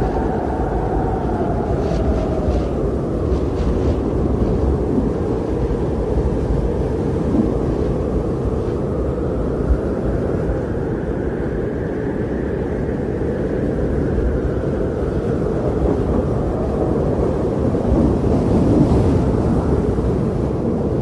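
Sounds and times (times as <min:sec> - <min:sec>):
strong blizzard wind blowing: 0:00.0 - 0:21.0.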